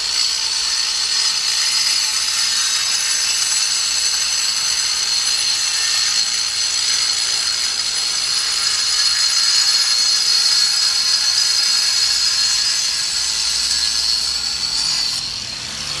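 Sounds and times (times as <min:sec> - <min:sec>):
angle grinder cutting plaster: 0:00.0 - 0:16.0.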